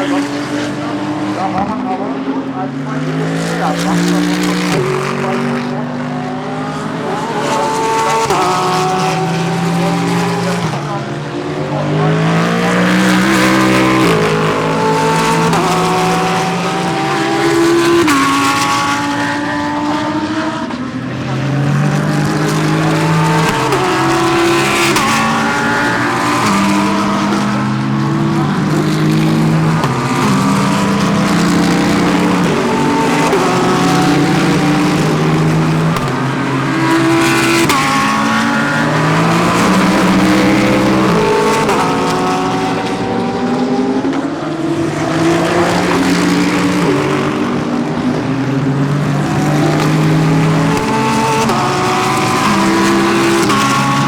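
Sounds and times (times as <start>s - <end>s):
race car engines with gear changes: 0.0s - 54.0s.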